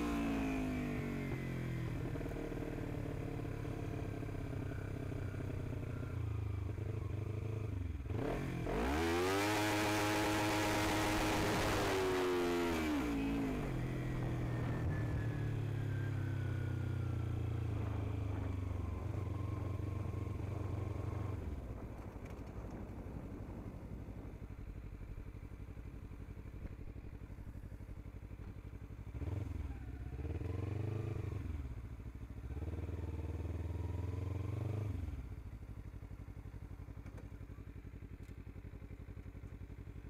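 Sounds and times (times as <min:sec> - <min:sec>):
motorcycle engine revving: 0:00.0 - 0:23.9, 0:28.4 - 0:37.8.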